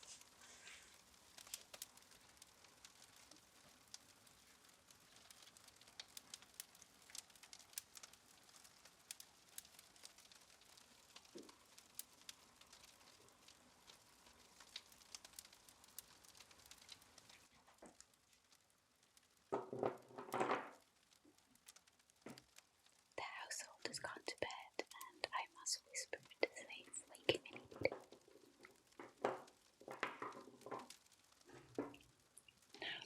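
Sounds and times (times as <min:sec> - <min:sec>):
fire crackling: 0:00.0 - 0:33.0.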